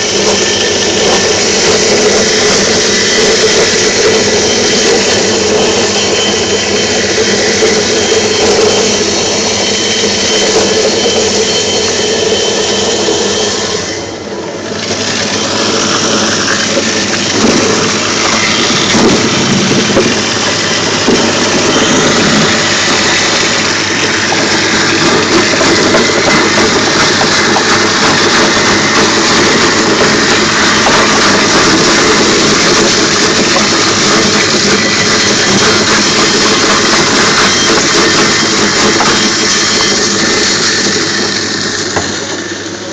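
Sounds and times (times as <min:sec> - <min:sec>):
machine grinding apples: 0:00.0 - 0:42.9.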